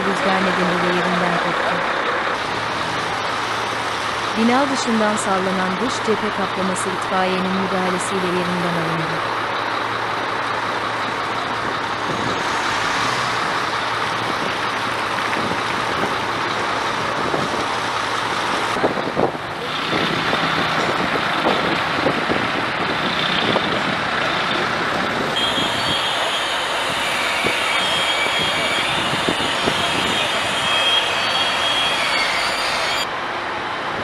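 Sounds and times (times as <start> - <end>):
truck engine running: 0.0 - 31.8
street traffic: 0.0 - 34.0.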